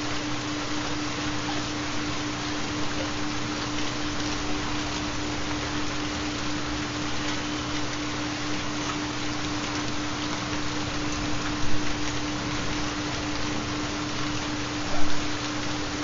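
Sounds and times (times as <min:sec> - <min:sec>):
constant low pure tone: 0:00.0 - 0:16.0
steady rain patter: 0:00.0 - 0:16.0.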